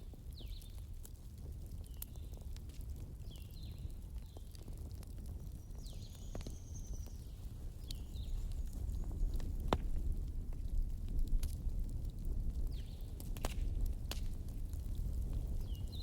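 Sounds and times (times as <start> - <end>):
fire crackling in fireplace: 0.0 - 16.0
fire popping: 0.0 - 16.0.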